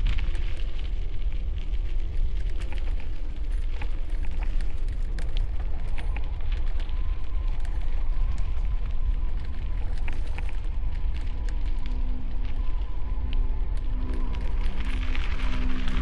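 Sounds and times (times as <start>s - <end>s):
small crackles and clicks: 0.0s - 16.0s.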